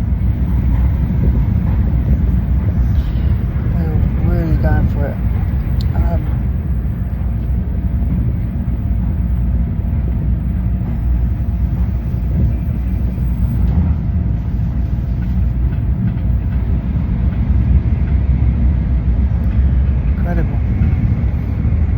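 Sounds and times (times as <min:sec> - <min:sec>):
train running low rumble: 0:00.0 - 0:21.9.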